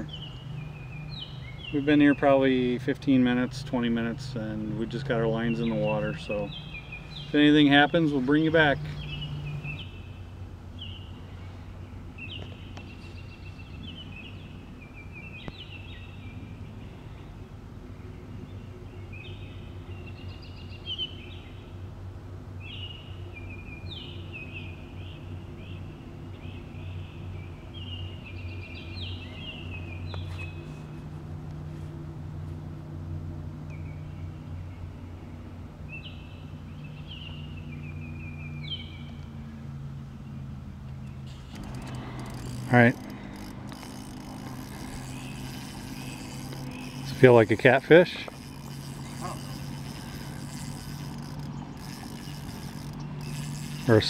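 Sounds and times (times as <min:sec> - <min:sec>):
songbird singing chirpy phrases: 0:00.0 - 0:21.9, 0:22.6 - 0:31.0, 0:33.6 - 0:54.0.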